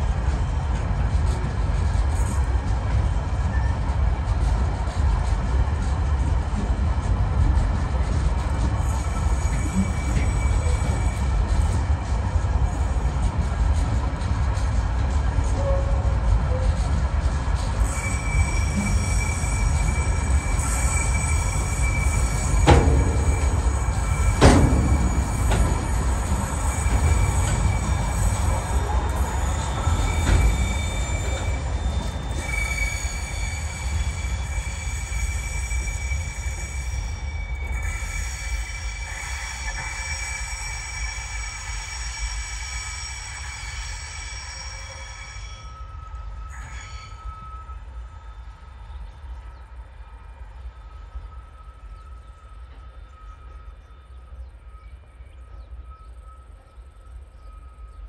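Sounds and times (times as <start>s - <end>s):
train wagons rumbling: 0.0s - 58.0s
train wheels squealing: 0.0s - 58.0s.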